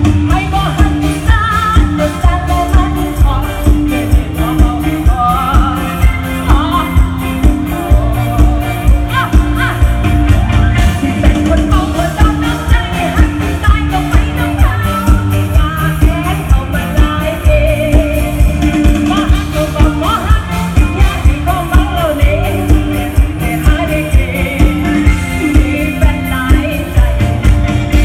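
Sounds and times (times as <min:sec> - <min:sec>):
live band music through loudspeakers: 0:00.0 - 0:28.0
person singing: 0:00.0 - 0:28.0
steady drum beat: 0:00.0 - 0:28.0.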